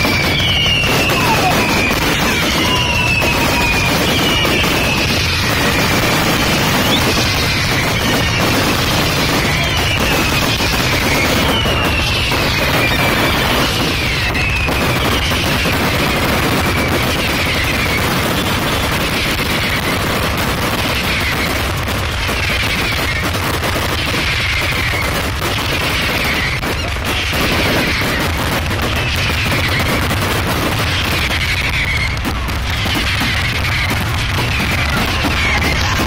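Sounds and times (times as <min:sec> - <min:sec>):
fireworks booms: 0:00.0 - 0:36.0
fireworks crackle: 0:00.0 - 0:36.0.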